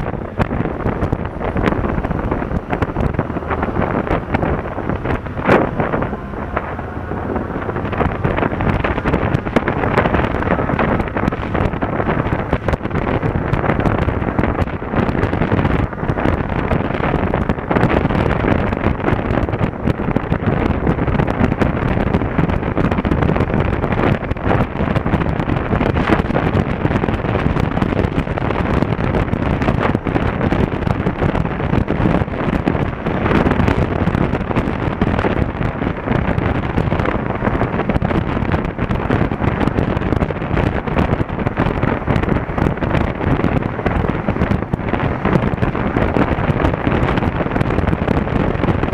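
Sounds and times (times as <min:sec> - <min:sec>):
motorcycle engine: 0:00.0 - 0:48.9
road noise: 0:00.0 - 0:48.9
wind rushing over microphone: 0:00.0 - 0:48.9.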